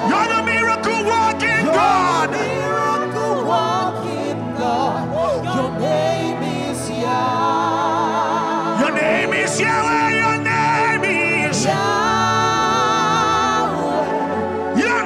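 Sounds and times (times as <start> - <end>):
held musical accompaniment: 0.0 - 15.0
voices singing gospel: 0.0 - 15.0.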